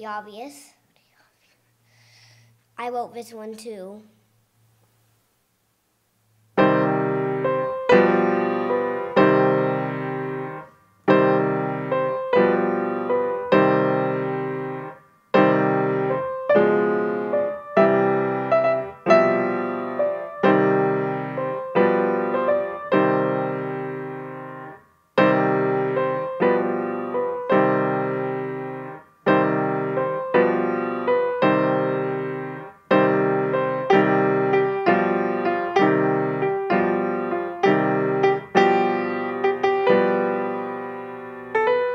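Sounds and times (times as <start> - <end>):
grand piano chords: 6.5 - 41.9.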